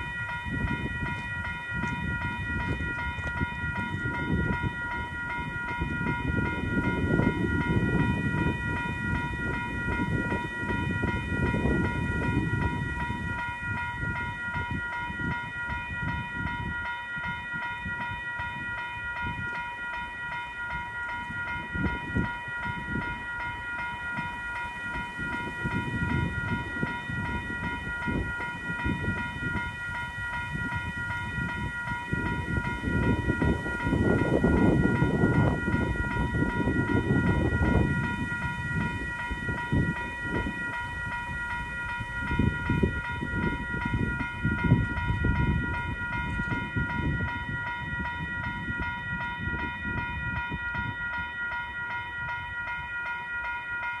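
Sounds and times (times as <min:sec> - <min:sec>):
level crossing bells ringing: 0:00.0 - 0:54.0.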